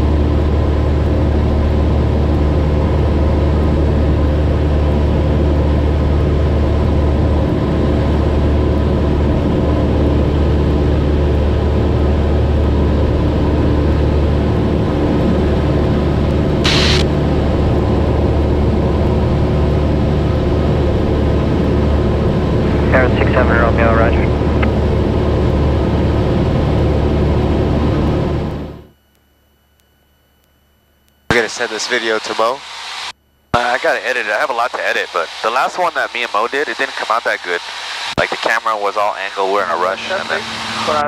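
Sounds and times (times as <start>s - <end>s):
airplane engine and propeller droning: 0.0s - 28.9s, 31.3s - 41.0s.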